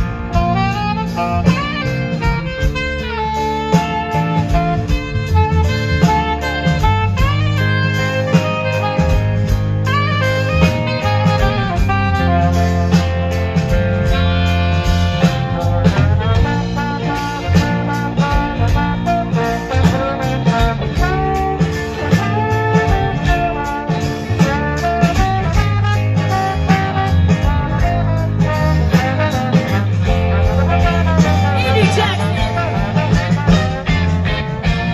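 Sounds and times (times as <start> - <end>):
bass guitar: 0.0 - 34.9
drums: 0.0 - 34.9
electric guitars: 0.0 - 34.9
saxophone: 0.0 - 34.9
soul and funk band playing: 0.0 - 34.9
trumpet: 0.0 - 34.9.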